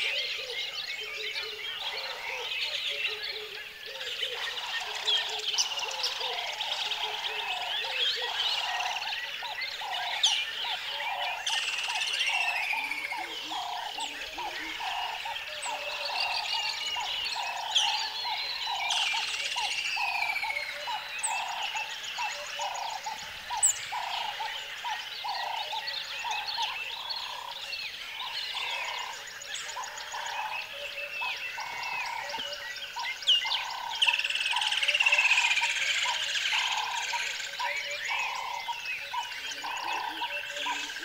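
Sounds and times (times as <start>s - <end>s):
birds chirping and trilling: 0.0s - 41.0s
frogs croaking: 0.0s - 41.0s.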